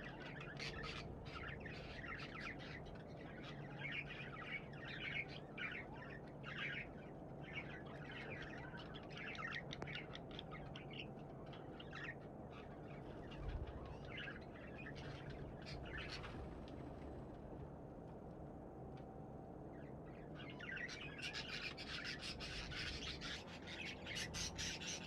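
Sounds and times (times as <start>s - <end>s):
budgerigars chirping and chattering: 0.0s - 16.4s, 20.4s - 25.0s.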